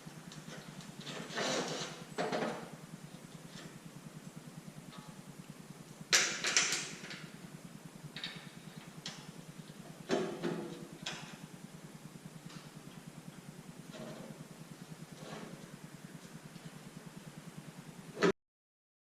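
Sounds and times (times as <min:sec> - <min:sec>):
low pulsing hum: 0:00.0 - 0:18.3.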